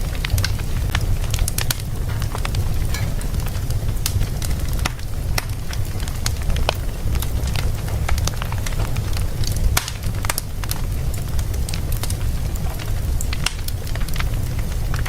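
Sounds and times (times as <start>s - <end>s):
fire pops and crackles: 0.0s - 15.0s
low rumble of flames: 0.0s - 15.0s.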